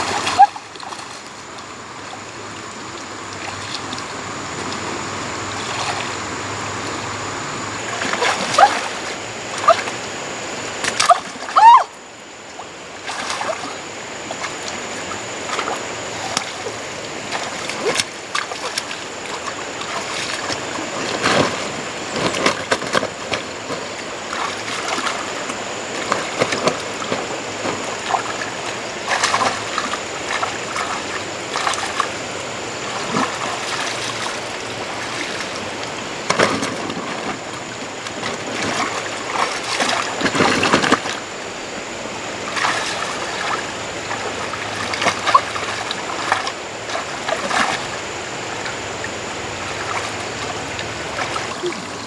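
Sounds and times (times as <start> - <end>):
water splashing and sloshing: 0.0 - 52.0
water trickling: 0.0 - 52.0.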